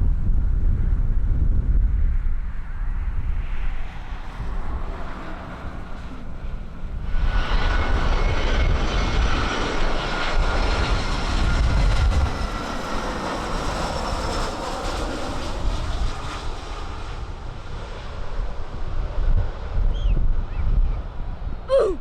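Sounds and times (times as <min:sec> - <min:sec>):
airplane engines passing: 0:00.0 - 0:22.0
wind buffeting microphone: 0:00.0 - 0:22.0.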